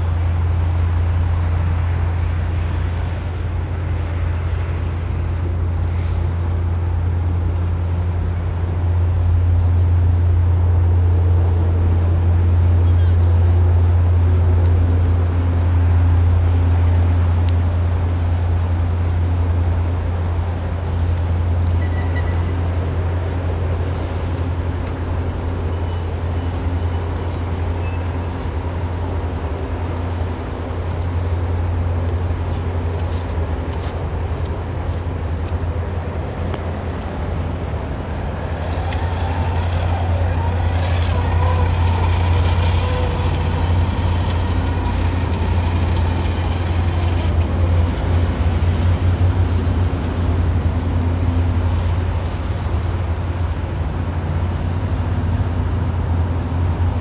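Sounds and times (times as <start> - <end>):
traffic-like low rumble: 0.0 - 57.0.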